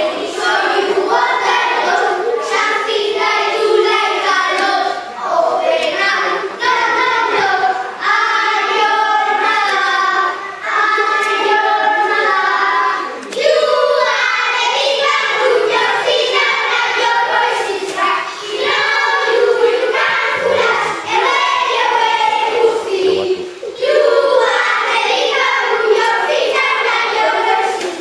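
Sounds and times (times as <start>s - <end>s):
children singing in chorus: 0.0s - 28.0s.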